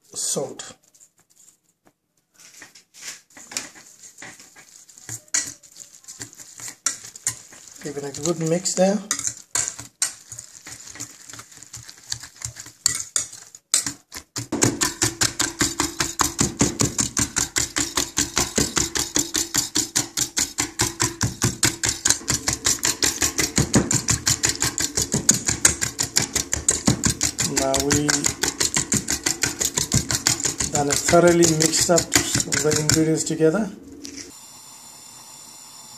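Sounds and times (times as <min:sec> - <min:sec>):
whisk beating in metal bowl: 0:03.6 - 0:33.6.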